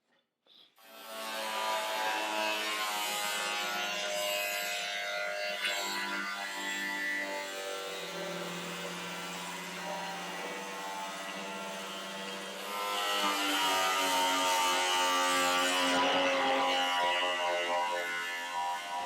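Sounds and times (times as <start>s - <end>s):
power tool cutting sheet metal: 0.8s - 19.0s.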